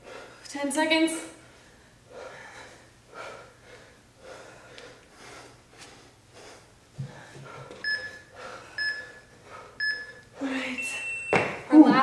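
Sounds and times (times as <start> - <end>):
people breathing heavily: 0.0 - 0.5, 1.4 - 10.9.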